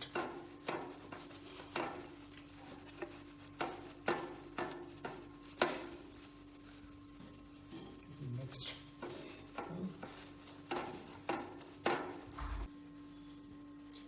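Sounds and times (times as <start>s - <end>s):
cloth rubbing between bicycle cogs: 0.0s - 14.0s.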